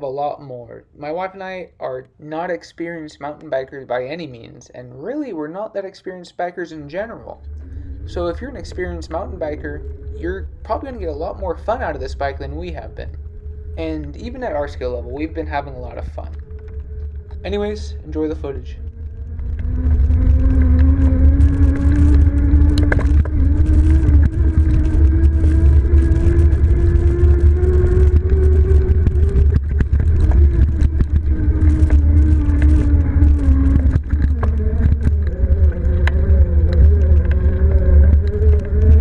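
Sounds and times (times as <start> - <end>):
wind rumble on microphone: 7.0 - 39.0
electric motor whine: 7.4 - 39.0.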